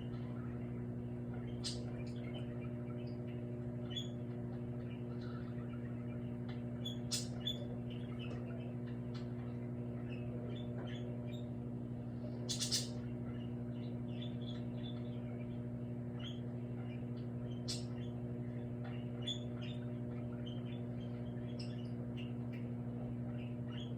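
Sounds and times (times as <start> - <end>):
microwave oven humming: 0.0 - 23.9.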